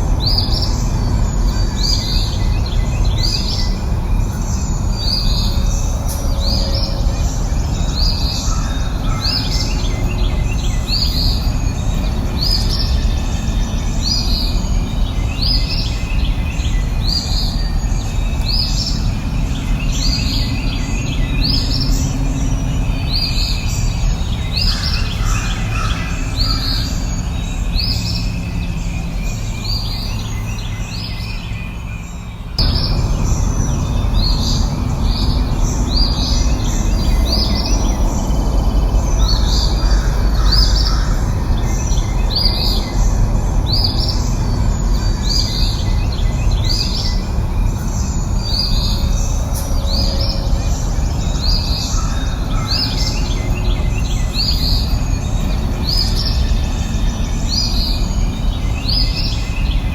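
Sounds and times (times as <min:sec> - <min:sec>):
bird chirping: 0:00.0 - 0:59.9
low rumbling background noise: 0:00.0 - 0:59.9.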